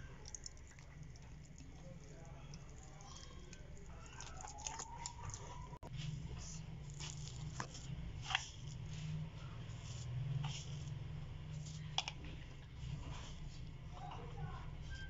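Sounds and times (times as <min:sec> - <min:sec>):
low steady hum: 0:00.0 - 0:15.0
spatula stirring wet paste: 0:00.0 - 0:15.0.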